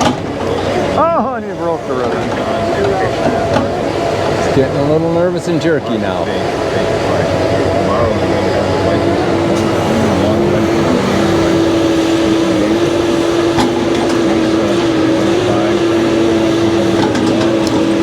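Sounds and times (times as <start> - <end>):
logging machine engine revving: 0.0 - 18.0.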